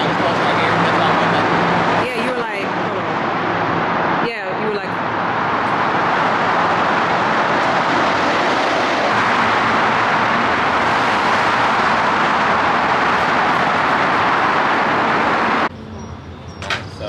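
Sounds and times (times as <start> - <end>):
traffic rushing through tunnel: 0.0 - 17.0.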